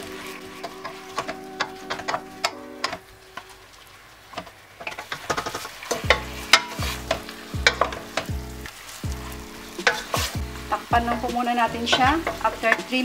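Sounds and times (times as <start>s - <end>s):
spatula scraping metal pot: 0.0s - 3.6s, 4.4s - 13.0s
oil sizzling: 0.0s - 13.0s.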